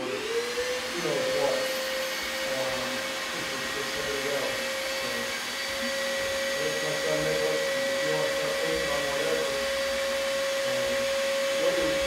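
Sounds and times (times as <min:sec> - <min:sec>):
electric blower whirring: 0:00.0 - 0:12.0.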